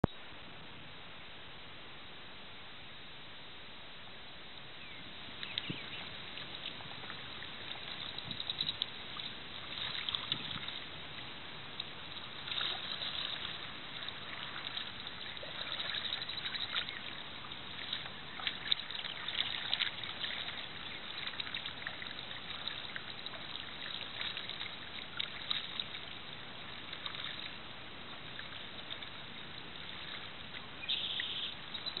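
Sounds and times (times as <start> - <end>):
moving water hiss: 0.2 - 32.0
paddle splashing water: 4.8 - 32.0.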